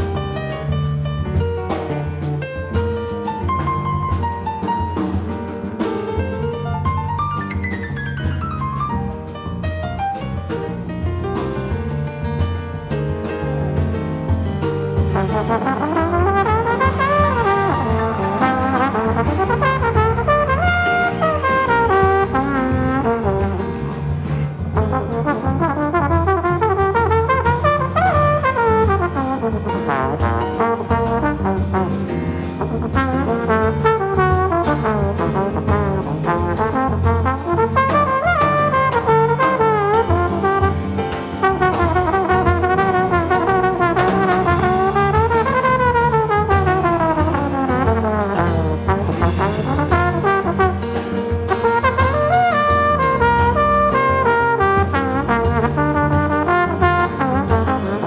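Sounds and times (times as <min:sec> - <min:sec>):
jazz rhythm section: 0:00.0 - 0:58.0
jazz trombone solo: 0:00.0 - 0:58.0.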